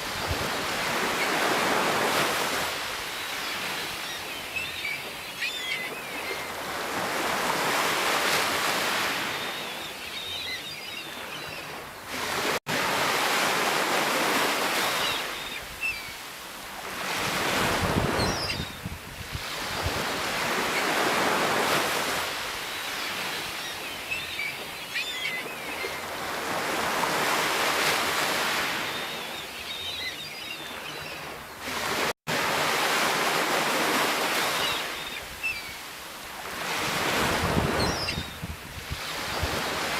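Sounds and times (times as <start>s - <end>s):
ocean waves breaking: 0.0s - 18.5s, 19.2s - 39.9s.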